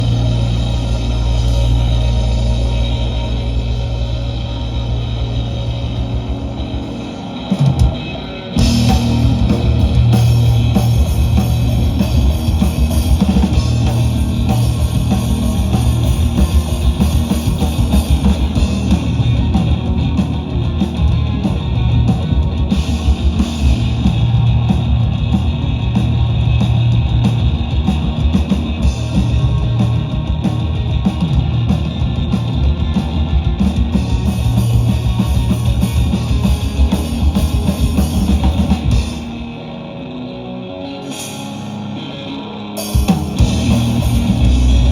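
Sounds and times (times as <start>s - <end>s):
drum kit: 0.0s - 39.8s, 41.0s - 42.1s, 42.7s - 44.9s
electric guitar: 0.0s - 44.9s
rock band playing live: 0.0s - 44.9s.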